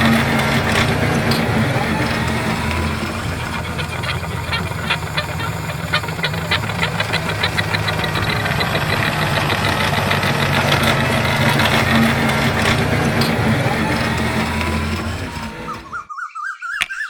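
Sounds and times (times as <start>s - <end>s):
rapid rattle of sharp clicks: 0.0s - 16.0s
small motor running: 0.0s - 16.1s.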